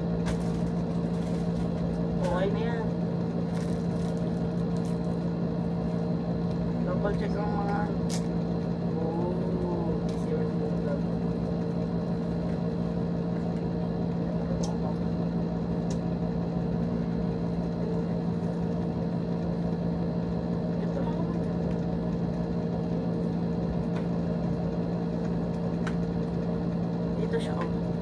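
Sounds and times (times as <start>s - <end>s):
electric hum: 0.0s - 28.0s.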